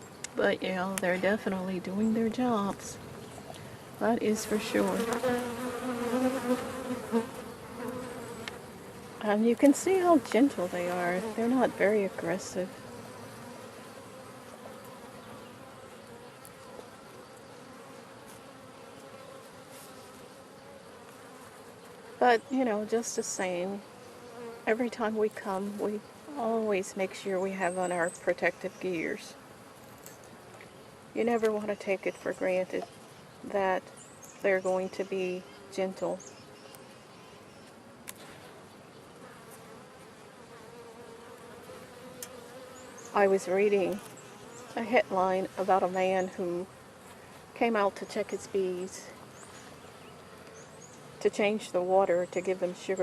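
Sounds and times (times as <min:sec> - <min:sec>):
honey bees buzzing: 0:00.0 - 0:37.8, 0:38.4 - 0:53.0.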